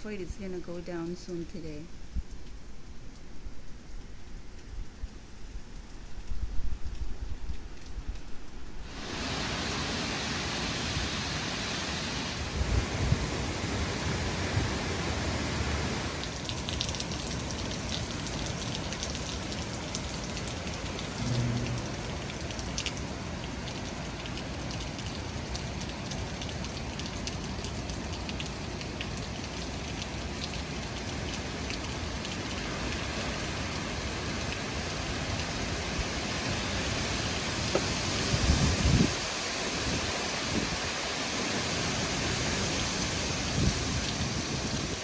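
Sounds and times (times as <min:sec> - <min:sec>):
steady rain hiss: 0:00.0 - 0:45.0.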